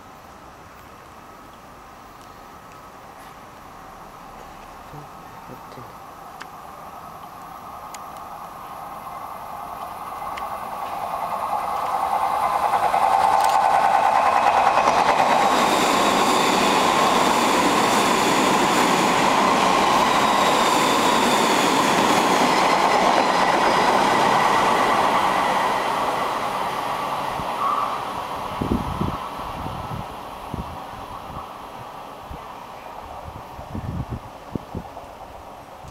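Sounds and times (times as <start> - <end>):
train wheels on rails: 5.8 - 35.9.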